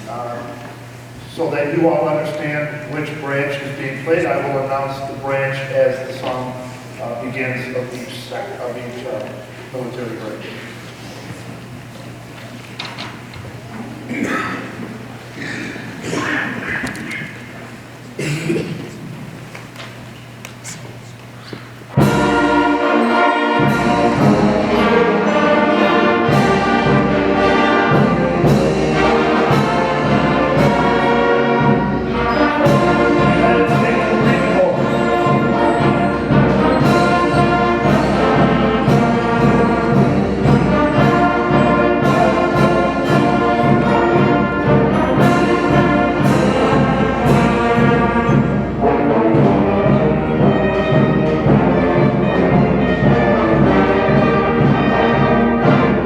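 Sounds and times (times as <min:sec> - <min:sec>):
concert band playing a march: 0:00.0 - 0:12.3, 0:21.9 - 0:56.0.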